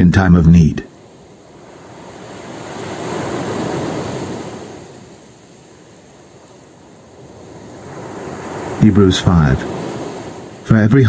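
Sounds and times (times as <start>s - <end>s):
ocean waves washing in: 0.0s - 11.0s.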